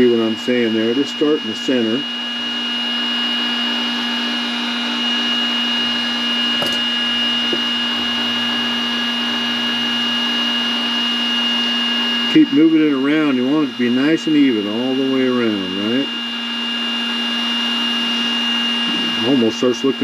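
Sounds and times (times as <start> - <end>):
heat gun fan whining: 0.0 - 20.0.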